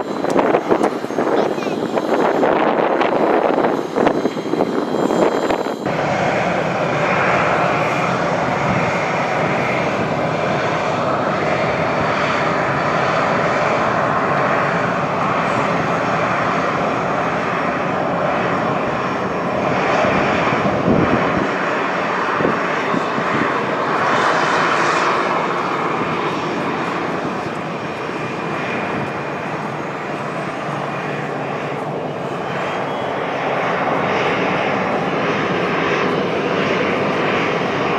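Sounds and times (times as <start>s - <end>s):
jet engine roar: 0.0s - 37.9s.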